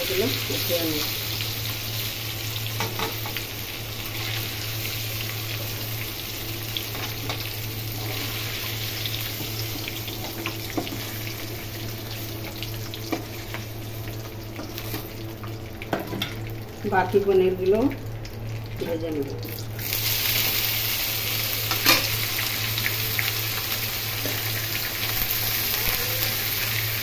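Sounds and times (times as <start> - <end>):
oil sizzling in a pan: 0.0 - 27.0.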